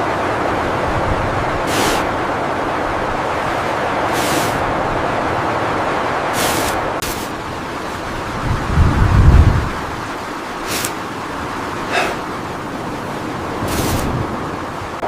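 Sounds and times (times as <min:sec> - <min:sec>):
hissing wind gusts: 0:00.0 - 0:15.0
wind blowing: 0:00.0 - 0:15.0.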